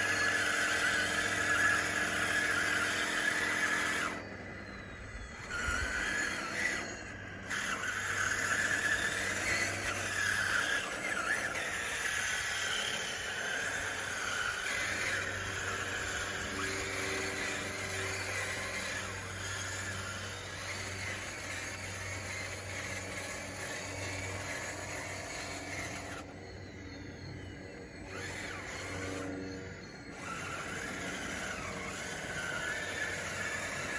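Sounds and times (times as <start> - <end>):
electric motor whining: 0.0 - 33.9.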